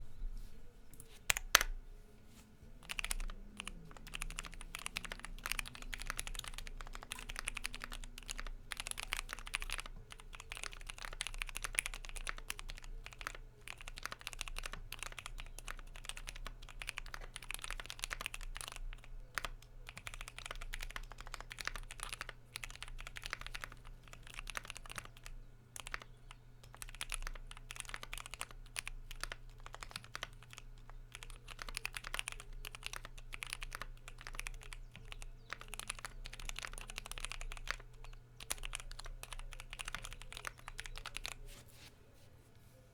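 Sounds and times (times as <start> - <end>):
mechanical keyboard typing: 1.0 - 1.8, 2.8 - 41.5.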